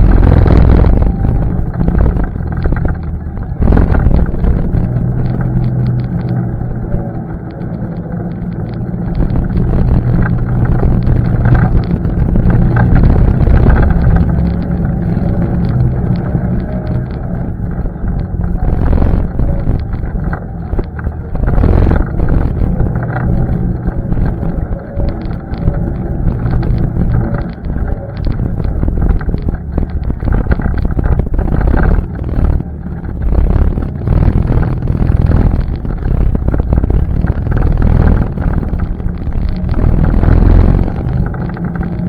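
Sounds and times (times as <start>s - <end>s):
atv engine running: 0.0s - 42.0s
wind on microphone: 0.0s - 42.0s.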